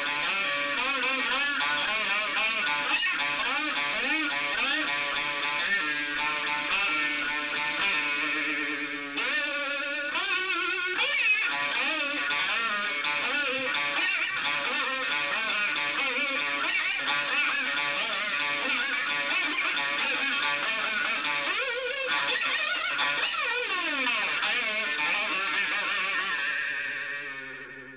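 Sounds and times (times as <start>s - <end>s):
distorted slide string blues: 0.0s - 27.9s.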